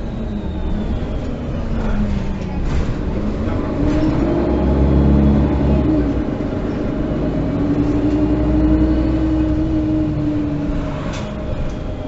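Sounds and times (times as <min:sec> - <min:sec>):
bus engine rumble and hum: 0:00.0 - 0:12.0.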